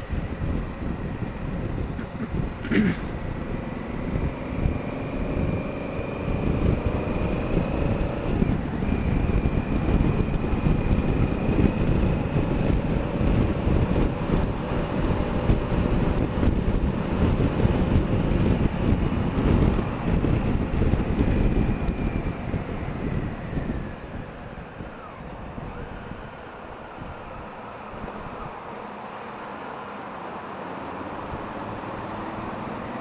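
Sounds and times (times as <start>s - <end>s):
motorcycle engine running: 0.0s - 28.5s
wind buffeting microphone: 0.0s - 28.7s.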